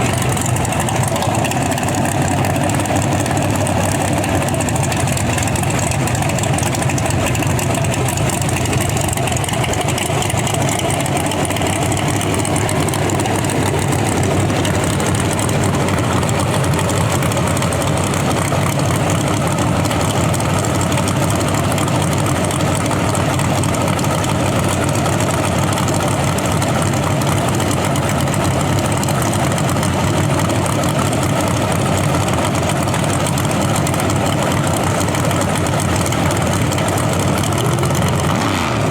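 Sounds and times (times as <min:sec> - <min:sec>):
car engine idling loudly: 0:00.0 - 0:38.9.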